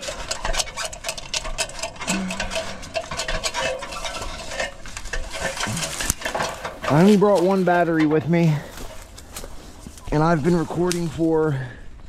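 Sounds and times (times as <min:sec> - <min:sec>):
boots and hands on ladder rungs: 0:00.0 - 0:10.2.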